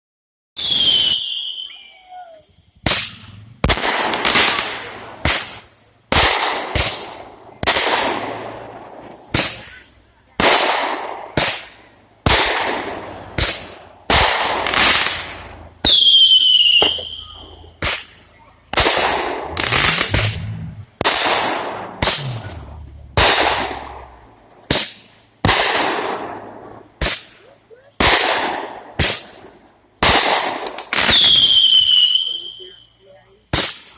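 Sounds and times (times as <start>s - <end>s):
falling firework whistles: 0.6s - 27.5s, 30.1s - 32.8s
fireworks bangs: 0.6s - 32.8s.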